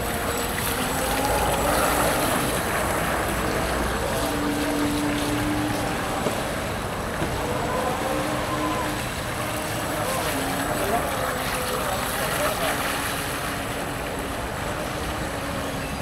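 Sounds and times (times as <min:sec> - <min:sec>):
boat skimming across water: 0:00.0 - 0:16.0.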